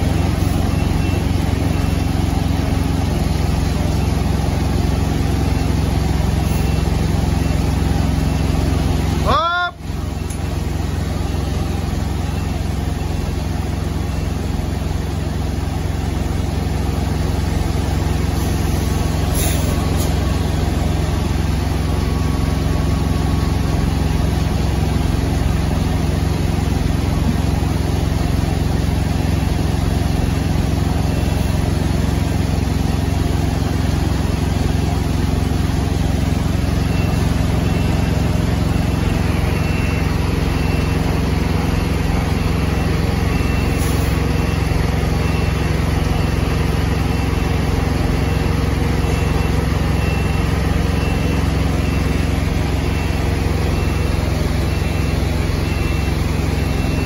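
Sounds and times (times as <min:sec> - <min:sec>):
diesel truck engine running: 0:00.0 - 0:57.0
faint high reversing beeps: 0:00.0 - 0:57.0.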